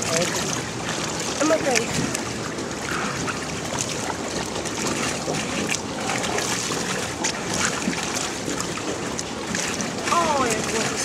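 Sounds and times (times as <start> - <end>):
water lapping and splashing: 0.0 - 11.0.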